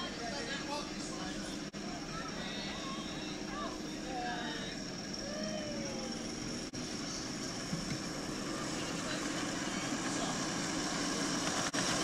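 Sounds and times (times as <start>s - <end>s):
faint high whine: 0.0s - 12.0s
miniature train running: 0.0s - 12.0s.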